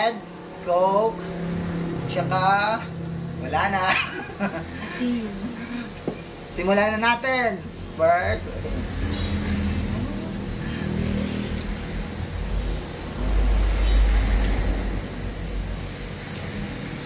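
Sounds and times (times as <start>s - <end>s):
vehicle passing: 0.0s - 6.0s, 7.7s - 17.0s
road traffic rumble: 0.0s - 17.0s.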